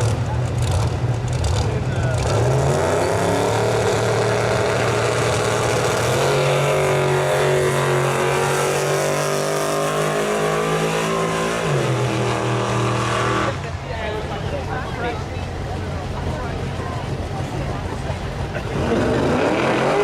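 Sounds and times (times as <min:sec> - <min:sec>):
drag race car engine running hard: 0:00.0 - 0:20.0.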